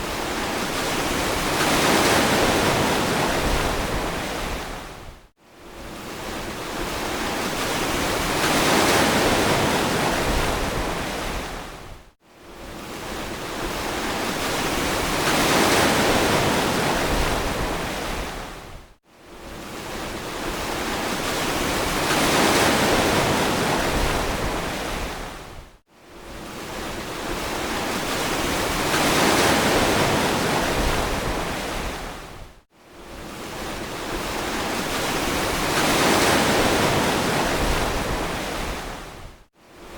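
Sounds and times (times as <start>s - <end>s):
ocean surf washing in and out: 0.0s - 39.9s.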